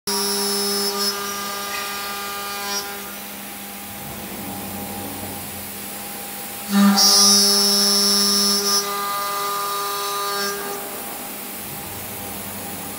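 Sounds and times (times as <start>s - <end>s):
machining centre hum: 0.1s - 12.9s.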